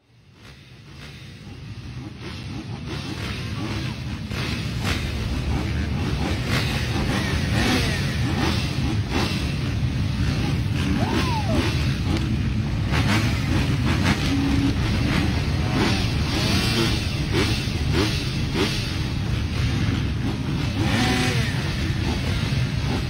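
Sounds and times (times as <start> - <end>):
motocross engines revving: 0.1 - 23.0.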